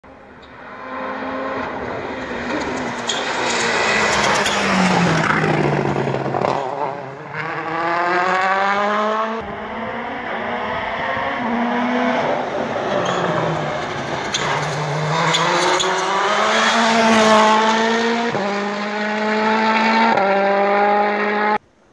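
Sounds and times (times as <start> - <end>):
rally car engine revving: 0.6 - 21.6.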